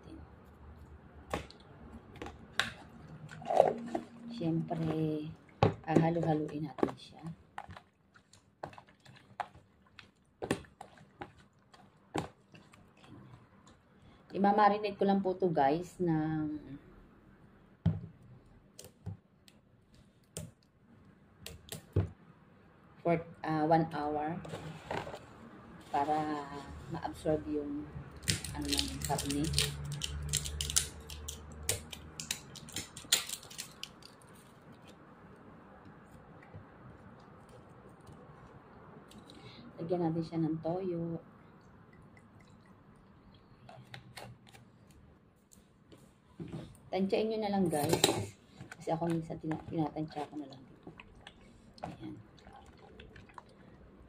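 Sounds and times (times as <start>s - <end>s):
soft wet squishes of hand mixing: 0.0s - 54.0s.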